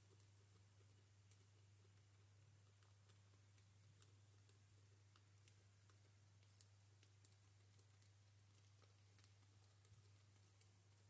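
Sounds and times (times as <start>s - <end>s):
guinea pigs chewing pellets: 0.0s - 11.0s
low steady hum: 0.0s - 11.0s.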